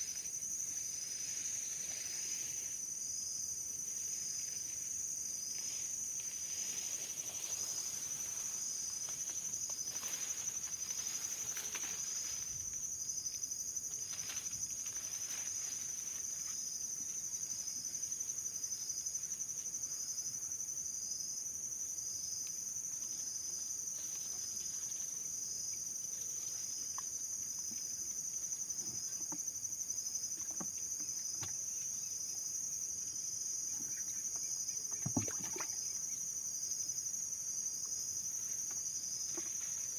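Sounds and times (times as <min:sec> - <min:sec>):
insect chirp: 0:00.0 - 0:39.9
insects high-pitched drone: 0:00.0 - 0:39.9.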